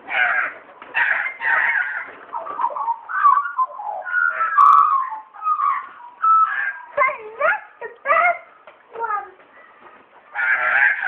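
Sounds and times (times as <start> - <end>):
magpies warbling: 0.0 - 8.6, 10.3 - 11.0.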